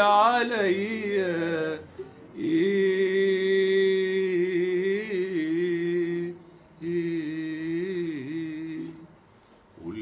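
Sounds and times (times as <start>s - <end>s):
man singing wordless long notes: 0.0s - 9.1s.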